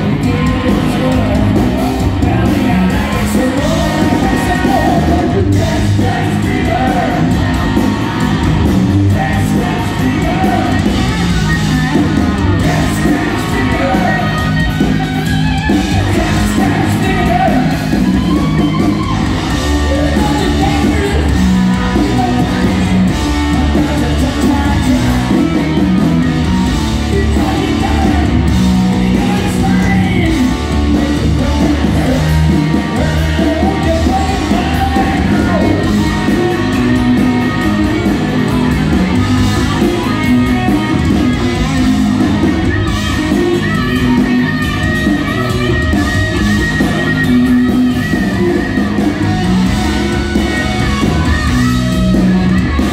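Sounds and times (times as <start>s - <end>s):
bass and drums: 0.0s - 52.9s
overdriven electric guitar: 0.0s - 52.9s
person singing and yelling: 0.0s - 52.9s.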